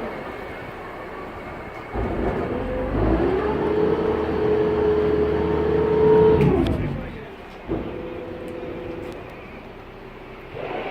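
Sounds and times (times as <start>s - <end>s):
boat engine revving: 1.9s - 10.9s.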